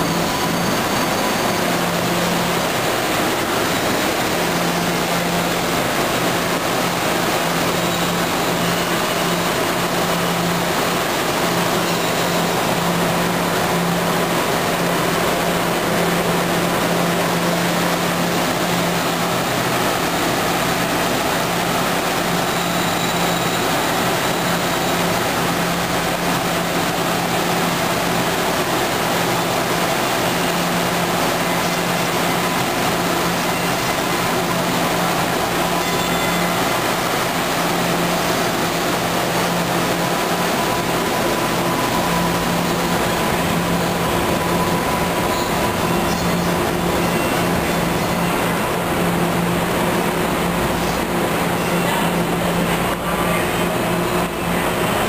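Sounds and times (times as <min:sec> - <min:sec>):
light-rail trains rumbling: 0:00.0 - 0:55.0.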